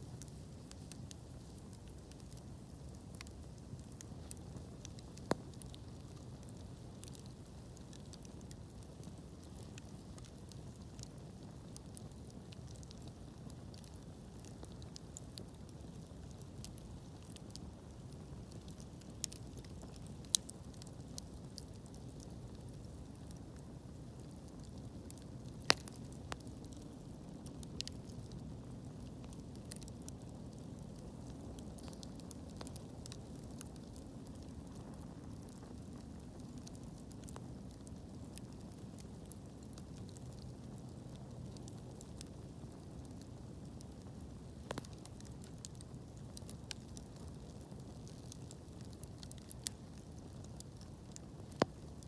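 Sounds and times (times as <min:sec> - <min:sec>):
fire crackles and pops: 0:00.0 - 0:52.0.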